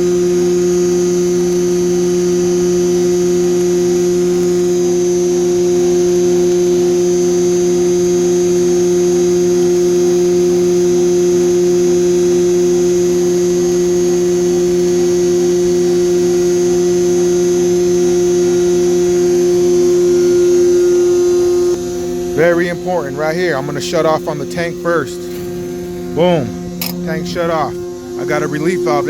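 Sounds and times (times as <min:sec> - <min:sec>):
vacuum pump humming: 0:00.0 - 0:29.0.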